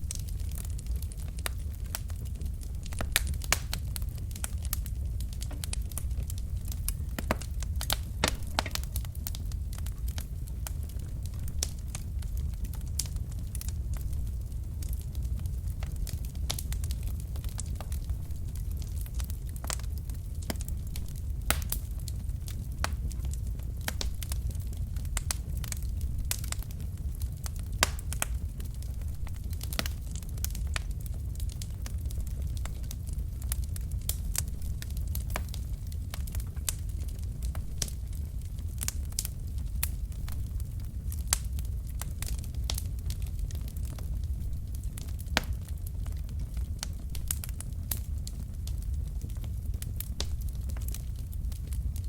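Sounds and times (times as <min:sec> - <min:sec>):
wood fire crackling and popping: 0:00.0 - 0:52.0.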